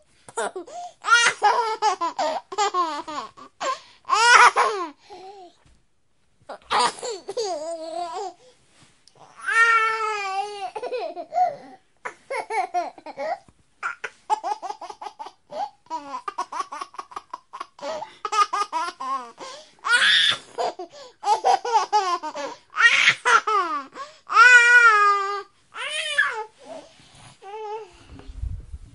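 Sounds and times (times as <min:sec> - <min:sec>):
baby laughing and babbling: 0:00.3 - 0:05.6, 0:06.5 - 0:08.4, 0:09.2 - 0:26.6.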